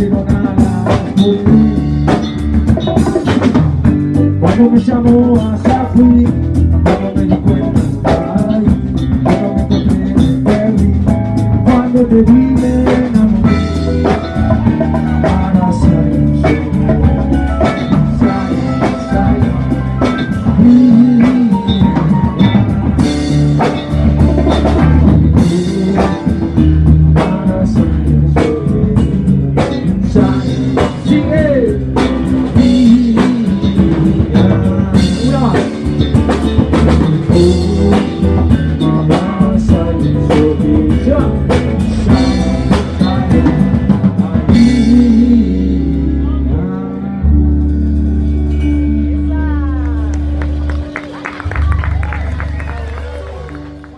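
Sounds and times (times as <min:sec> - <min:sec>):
drum kit steady beat: 0:00.0 - 0:46.0
bass line: 0:00.0 - 0:53.9
electric guitar: 0:00.0 - 0:53.9
live funk band playing: 0:00.0 - 0:53.9.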